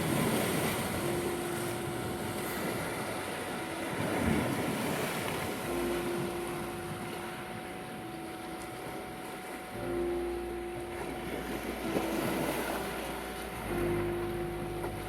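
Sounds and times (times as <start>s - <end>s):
soft low sustained notes: 0.0s - 15.0s
waves washing on shore: 0.0s - 15.0s
steady tone: 0.9s - 15.0s.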